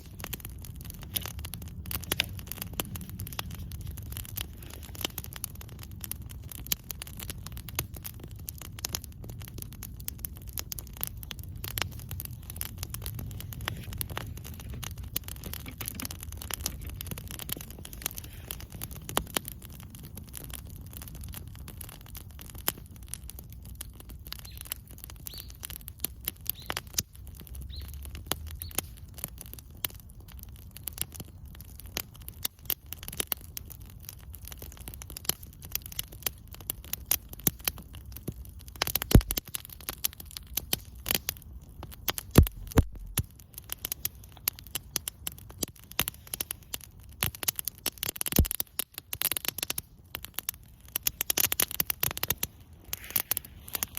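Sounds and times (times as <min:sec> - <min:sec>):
campfire crackling and popping: 0:00.0 - 0:53.9
fire snapping: 0:00.0 - 0:53.9.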